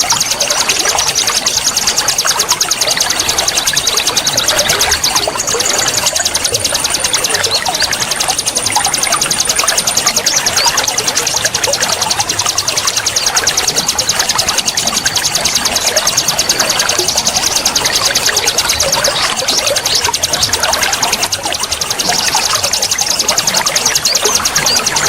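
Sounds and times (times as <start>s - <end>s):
bird chirps: 0.0s - 25.0s
high-pitched bird trill: 0.0s - 25.0s.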